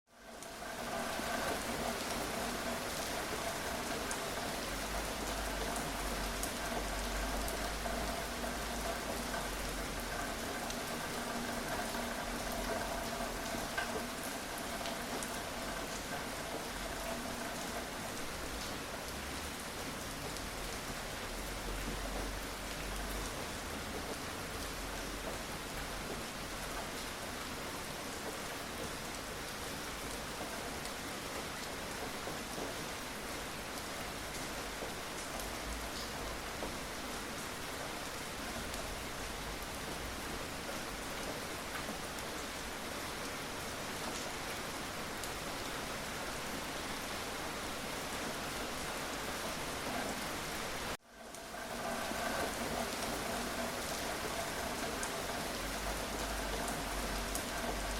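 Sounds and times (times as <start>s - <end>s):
steady rain falling: 0.1s - 57.9s.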